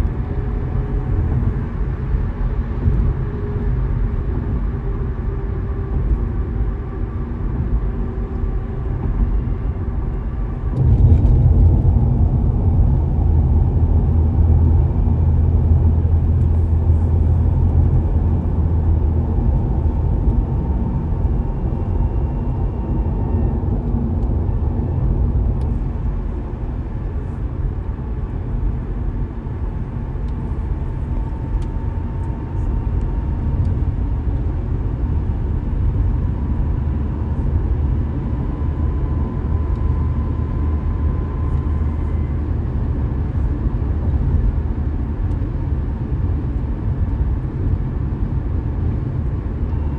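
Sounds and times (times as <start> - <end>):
car engine and tyre rumble: 0.0 - 49.9.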